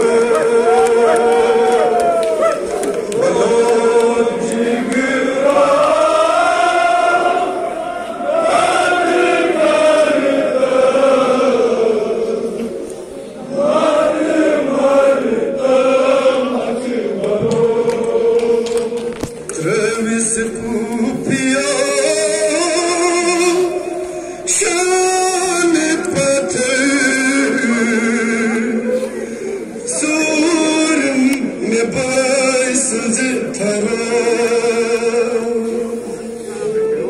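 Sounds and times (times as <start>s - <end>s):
men chanting a lament: 0.0s - 12.8s, 13.4s - 37.0s.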